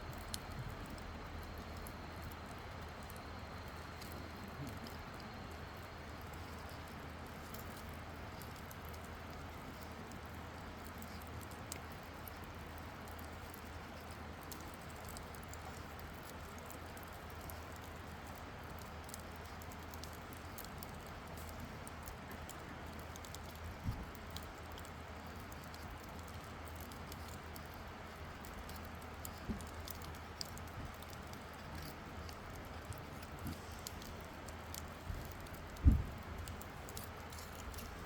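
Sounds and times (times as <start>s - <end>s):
campfire crackling and popping: 0.0s - 38.0s
low fire rumble: 0.0s - 38.0s.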